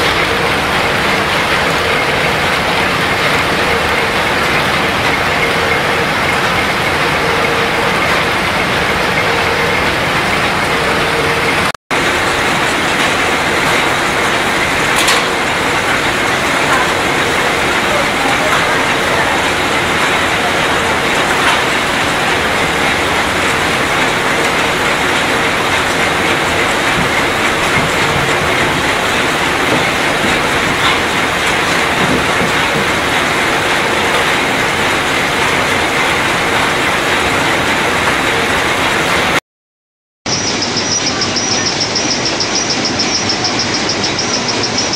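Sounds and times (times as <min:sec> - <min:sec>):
conveyor rattling clatter: 0:00.0 - 0:39.4, 0:40.3 - 0:44.9
faint machine hum: 0:00.0 - 0:39.4.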